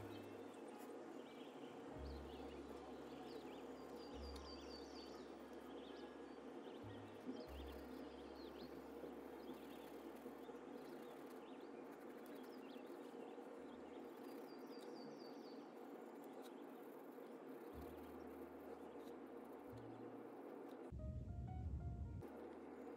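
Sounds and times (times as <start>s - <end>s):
faint bird chirps: 0.0s - 20.1s
steady low hiss: 0.0s - 22.9s.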